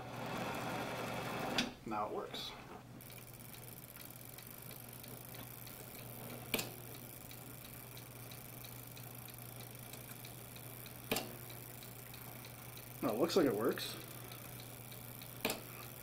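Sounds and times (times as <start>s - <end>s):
fare counter clicks: 3.0s - 16.0s
mechanical taximeter ticking: 3.0s - 16.0s.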